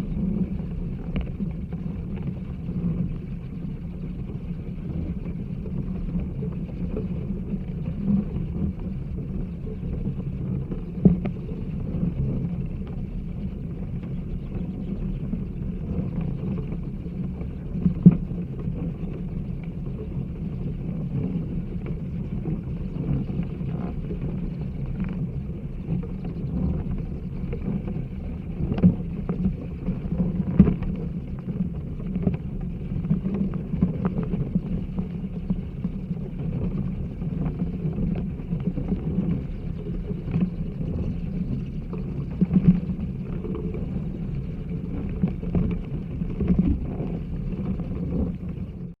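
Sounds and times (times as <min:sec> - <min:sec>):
low rumble: 0:00.0 - 0:49.0.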